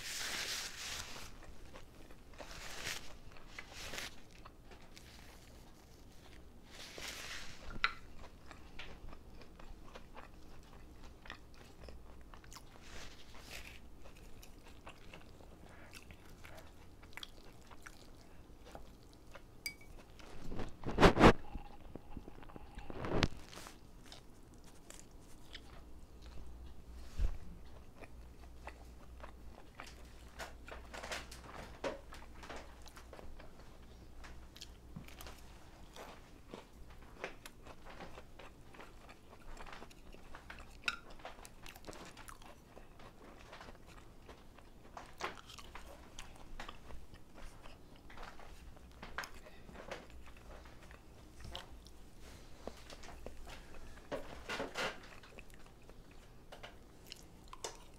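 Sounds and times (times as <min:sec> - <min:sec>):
person chewing crunchy food: 0:00.7 - 0:26.9, 0:27.6 - 0:31.5, 0:32.1 - 0:57.9.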